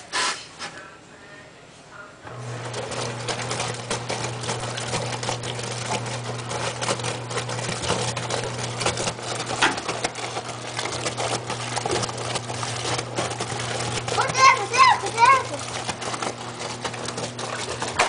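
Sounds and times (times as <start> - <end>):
washing machine motor hum: 2.2 - 18.0
water and clothes sloshing: 2.4 - 18.0.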